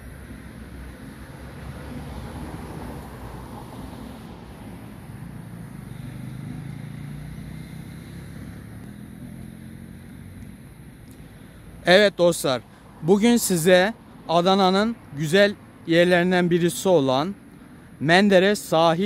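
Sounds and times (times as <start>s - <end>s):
outdoor background hiss: 0.0s - 19.0s
vehicle engine hum: 0.0s - 19.0s.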